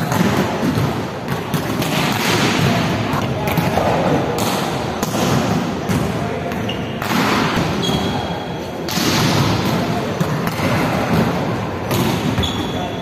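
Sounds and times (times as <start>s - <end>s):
volleyballs hit and bouncing: 0.0s - 13.0s
players' voices: 0.1s - 13.0s.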